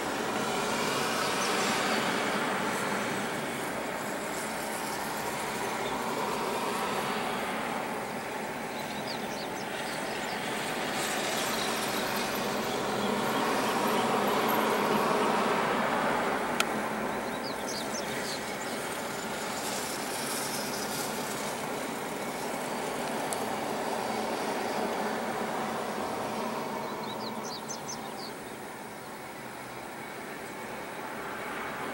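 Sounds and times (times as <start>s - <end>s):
airliner engines rumbling: 0.0s - 31.9s.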